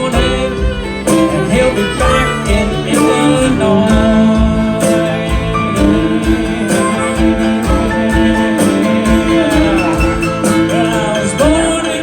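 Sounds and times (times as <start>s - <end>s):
country band playing: 0.0s - 12.0s
guitar: 0.0s - 12.0s.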